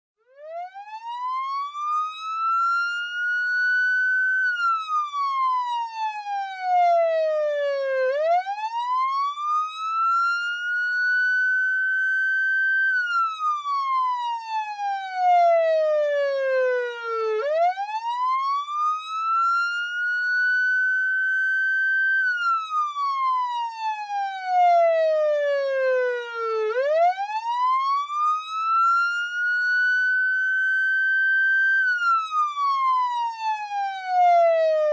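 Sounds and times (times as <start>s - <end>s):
police siren wailing: 0.3s - 34.9s.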